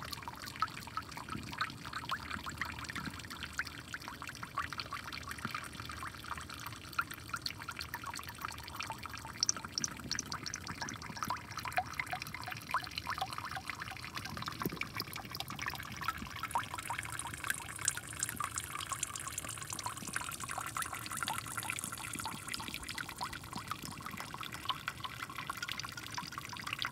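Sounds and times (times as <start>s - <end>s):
water pouring into a drain: 0.0s - 26.9s.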